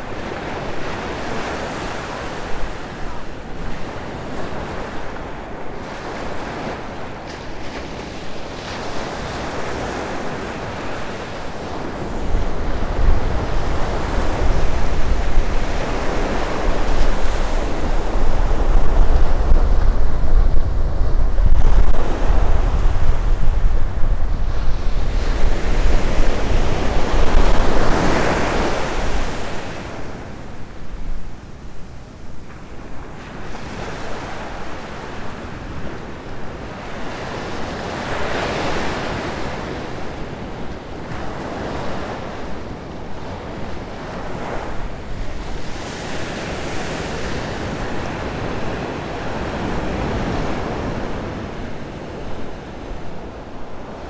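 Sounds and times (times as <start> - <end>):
waves washing over sand: 0.0 - 54.0
wind buffeting microphone: 0.0 - 54.0.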